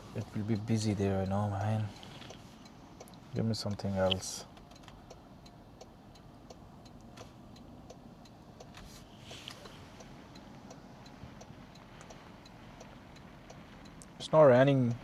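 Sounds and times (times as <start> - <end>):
low hum of car: 0.0 - 15.0
car indicator clicking: 0.2 - 14.2.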